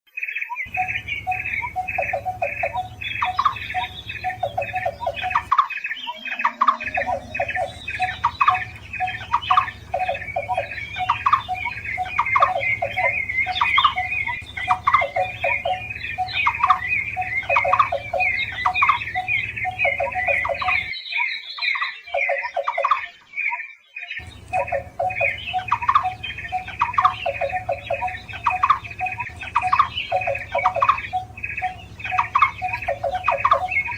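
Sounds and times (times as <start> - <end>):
birds calling repeated notes: 0.6 - 33.9.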